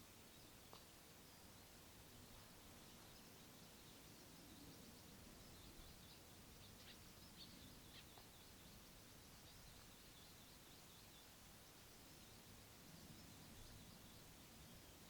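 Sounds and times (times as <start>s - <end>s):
bird chirping: 0.0s - 15.0s
low hiss: 0.0s - 15.0s.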